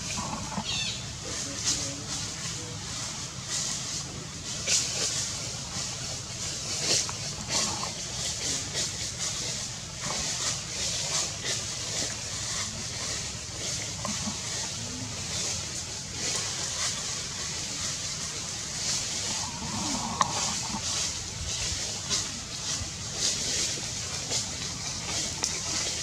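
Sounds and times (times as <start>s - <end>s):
small rustles: 0.0s - 26.0s
steady high hiss: 0.0s - 26.0s.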